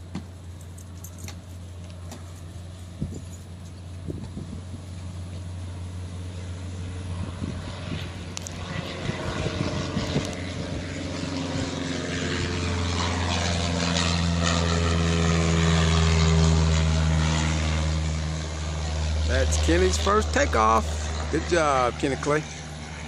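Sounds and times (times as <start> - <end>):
propeller airplane engine drone: 0.0 - 23.0.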